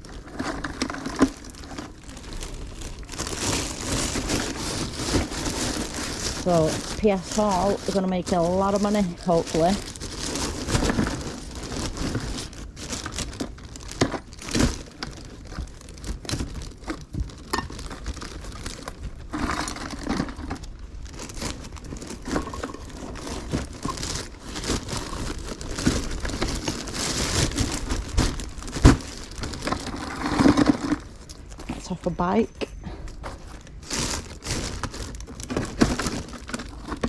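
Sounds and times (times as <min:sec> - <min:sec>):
crinkling and rustling: 0:00.0 - 0:37.0.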